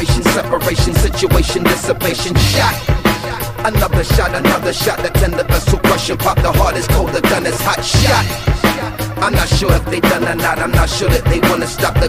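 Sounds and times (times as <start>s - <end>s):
rapping over bass-heavy beat: 0.0s - 12.0s.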